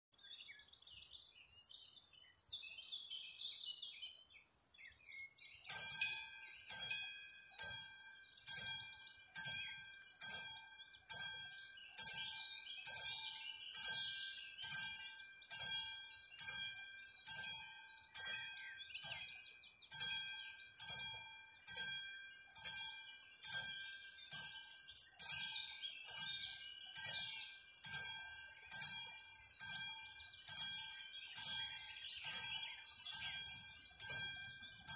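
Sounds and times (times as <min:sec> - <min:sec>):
birds chirping: 0:00.2 - 0:34.9
level crossing warning bell: 0:05.7 - 0:34.9.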